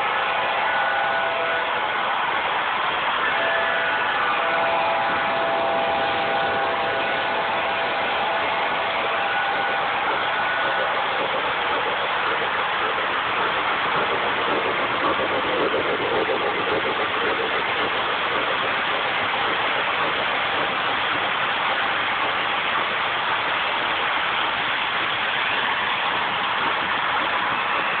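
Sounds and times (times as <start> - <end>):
model trains rolling whir: 0.0 - 28.0.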